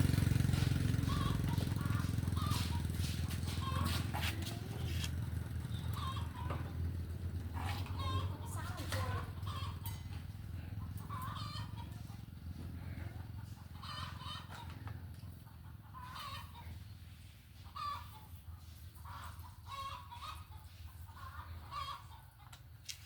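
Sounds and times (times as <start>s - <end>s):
chickens clucking: 0.1s - 23.0s.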